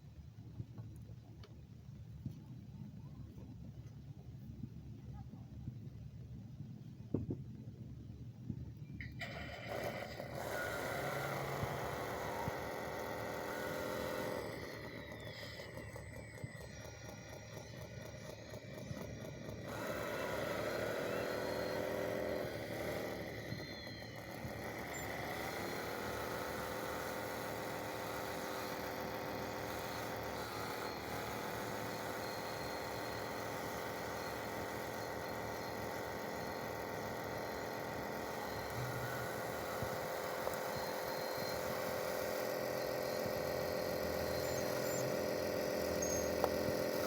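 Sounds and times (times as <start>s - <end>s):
toy machine motor whine: 9.0s - 47.0s.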